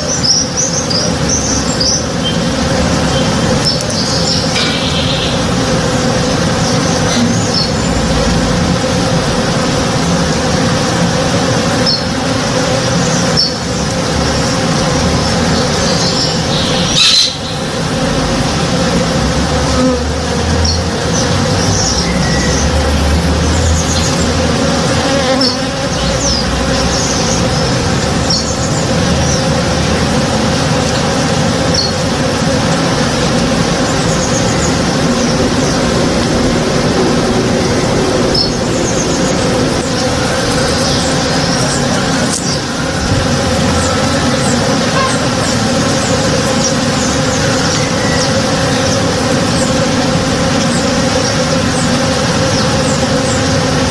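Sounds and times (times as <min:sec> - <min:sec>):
honey bees buzzing: 0:00.0 - 0:53.9.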